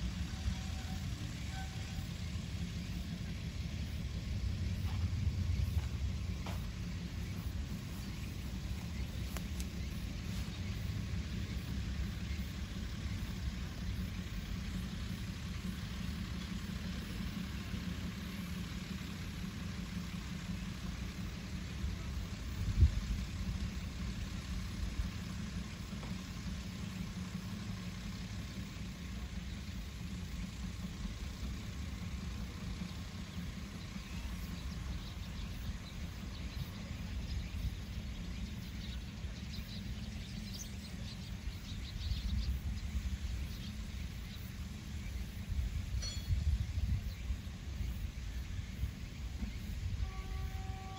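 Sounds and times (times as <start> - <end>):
distant train rumbling: 0.0 - 50.9.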